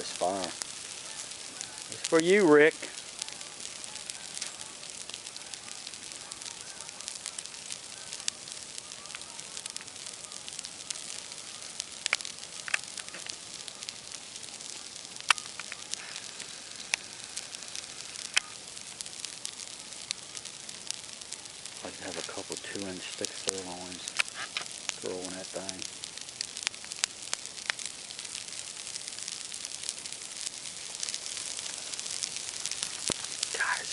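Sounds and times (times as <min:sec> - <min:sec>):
fire crackling: 0:00.0 - 0:33.9
sharp pops of fire: 0:00.0 - 0:33.9.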